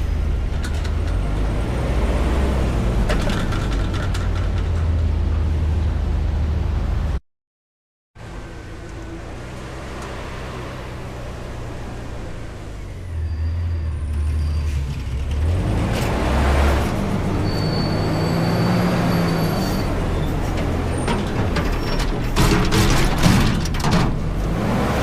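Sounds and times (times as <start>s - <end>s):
garbage truck diesel engine revving: 0.0s - 4.4s, 8.4s - 23.2s, 24.1s - 25.0s.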